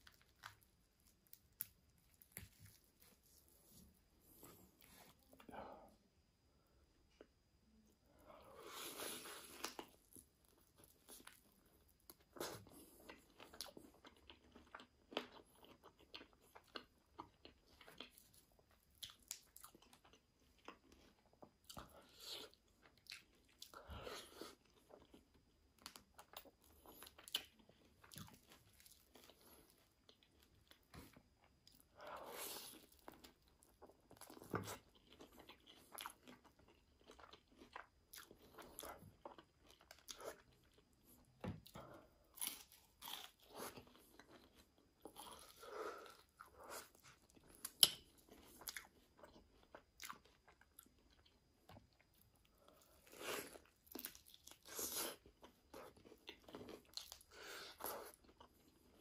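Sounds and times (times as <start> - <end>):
crunchy bites and chewing: 8.8 - 58.6.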